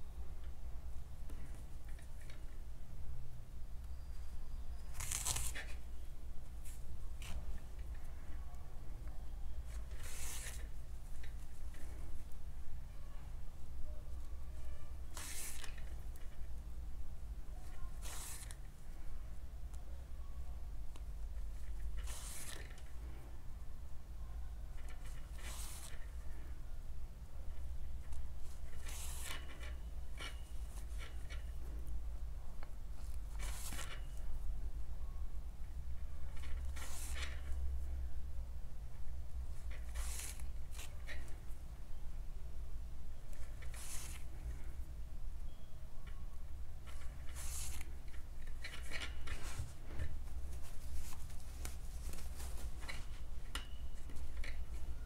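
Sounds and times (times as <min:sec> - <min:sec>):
steady low hum: 0:00.0 - 0:55.0
rustling of crochet fabric: 0:04.7 - 0:23.6, 0:24.6 - 0:26.6, 0:27.4 - 0:34.7, 0:35.7 - 0:38.1, 0:38.9 - 0:41.7, 0:43.0 - 0:44.9, 0:46.0 - 0:55.0.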